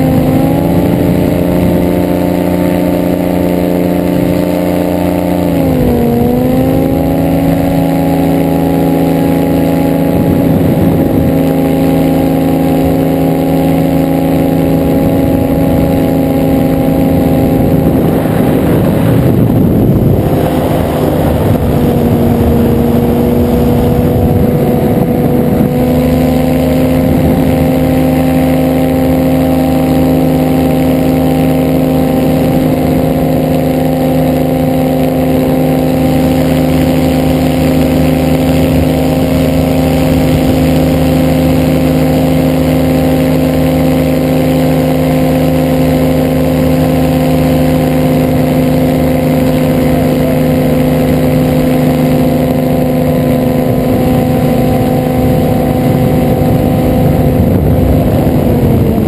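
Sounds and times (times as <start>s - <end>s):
ultralight engine and propeller drone: 0.0s - 59.0s.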